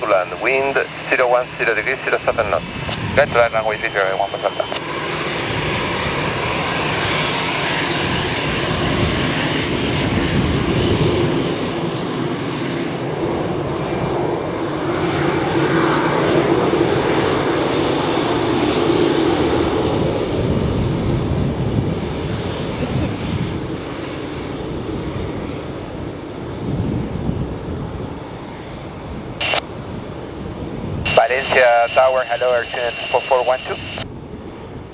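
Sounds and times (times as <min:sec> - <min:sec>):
jet engines roaring: 0:00.0 - 0:34.9.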